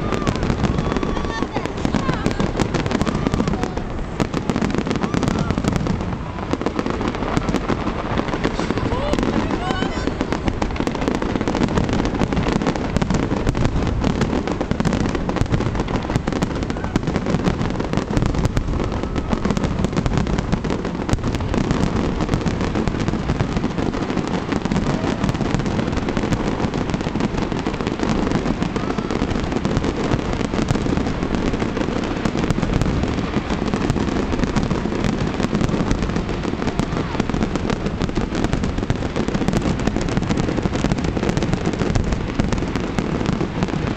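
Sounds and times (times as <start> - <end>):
fireworks bursting and crackling: 0.0 - 43.9.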